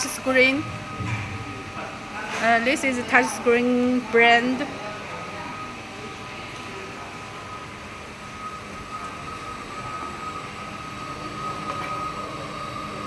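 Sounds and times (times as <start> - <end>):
high machine whine: 0.0 - 13.0
machine humming: 0.0 - 13.0.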